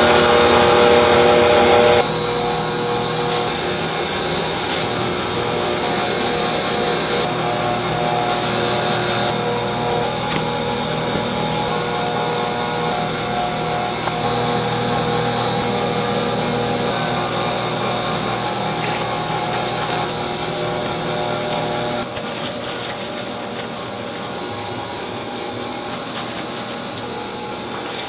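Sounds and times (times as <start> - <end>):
kitchen machinery whirring drone: 0.0 - 28.0.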